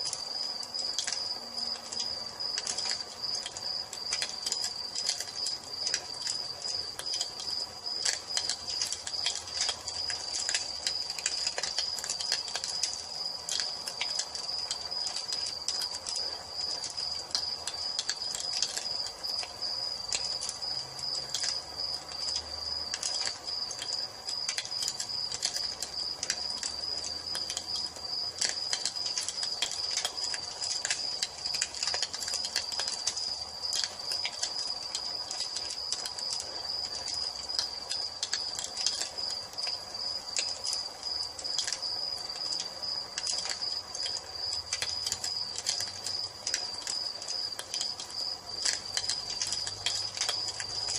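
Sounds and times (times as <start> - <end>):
crickets trilling: 0.0 - 50.9
wood fire crackling and popping: 0.0 - 50.9.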